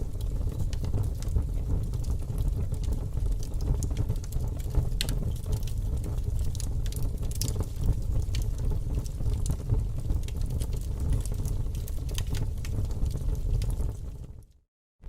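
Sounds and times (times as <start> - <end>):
fire crackling: 0.0 - 14.5.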